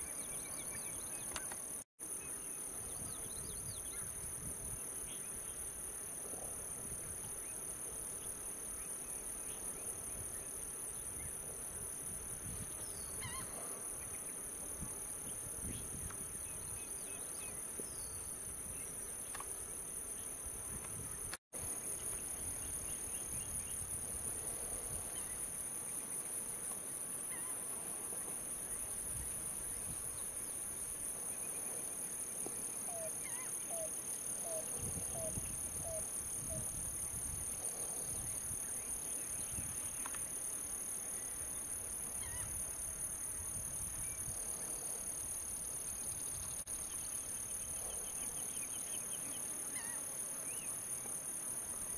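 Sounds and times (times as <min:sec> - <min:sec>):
insect chorus buzzing: 0:00.0 - 0:51.9.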